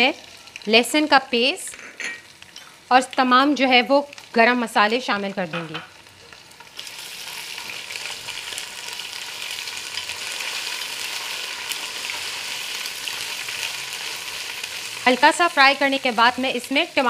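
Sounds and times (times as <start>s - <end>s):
hot oil sizzling in a pot: 0.0s - 17.0s.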